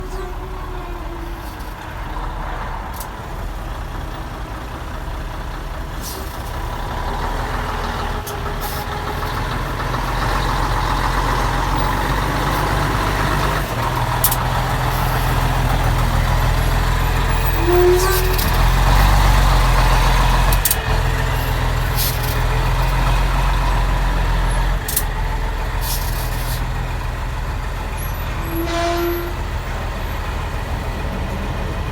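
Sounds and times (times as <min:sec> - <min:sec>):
diesel truck engine running: 0:00.0 - 0:31.9.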